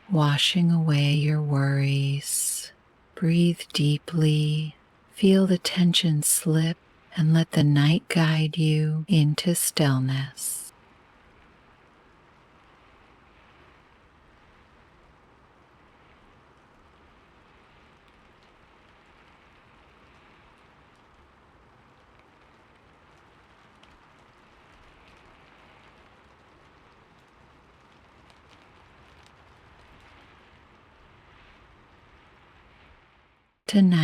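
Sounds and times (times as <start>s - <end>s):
soft steady rain: 0.0s - 34.0s.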